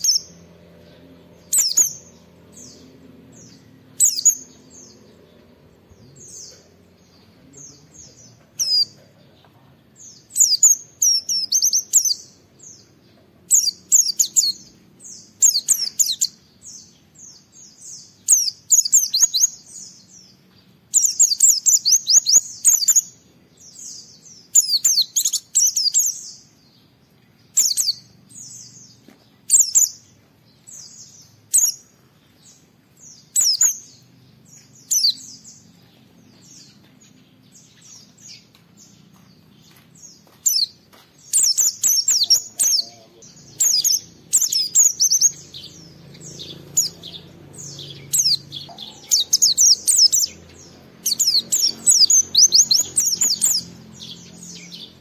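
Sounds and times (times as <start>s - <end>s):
bird twittering chirps: 0.0s - 55.0s.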